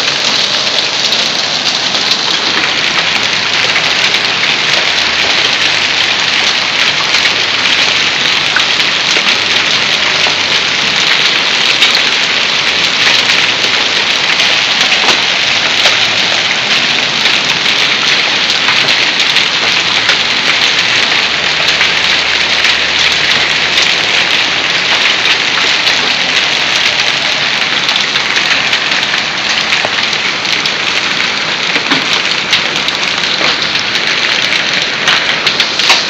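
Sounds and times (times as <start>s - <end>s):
hail ticking on ground: 0.0s - 36.0s
heavy rain hissing: 0.0s - 36.0s.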